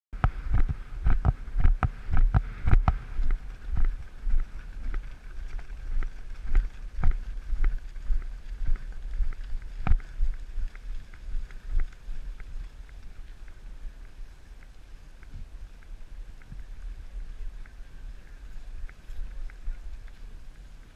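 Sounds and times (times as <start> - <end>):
horse hoofbeats on soft ground: 0.2 - 20.9
wind on microphone: 0.2 - 20.9.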